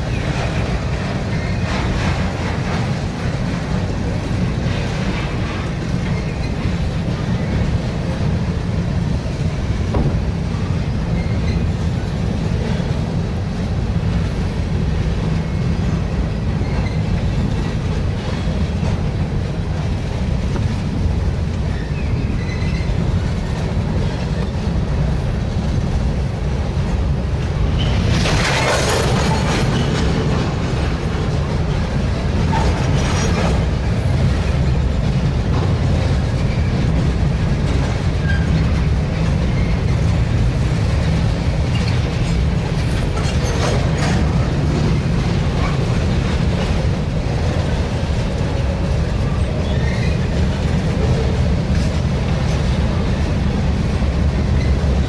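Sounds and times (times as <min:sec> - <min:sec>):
train rumbling over bridge: 0:00.0 - 0:55.0.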